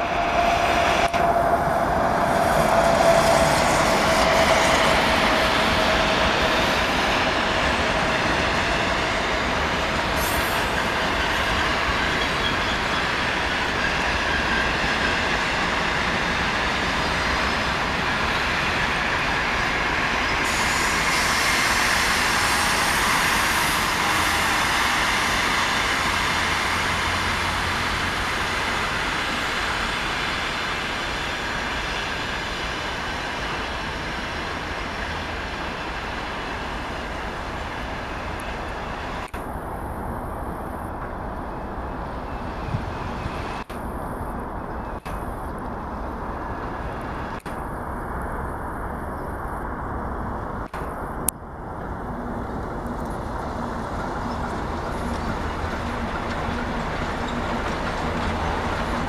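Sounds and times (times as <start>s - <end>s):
passing locomotive tone: 0.0s - 59.0s
train wheels rolling on rails: 0.0s - 59.0s.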